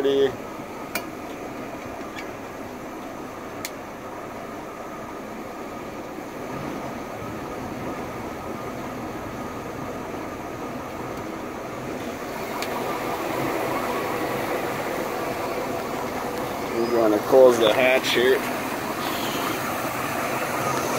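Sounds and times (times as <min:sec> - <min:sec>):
boat engine idling: 0:00.0 - 0:20.9.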